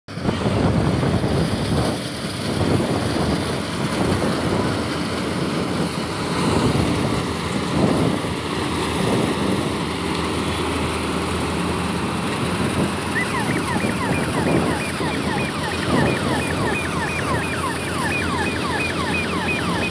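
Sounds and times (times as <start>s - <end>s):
combine harvester droning: 0.1s - 19.9s.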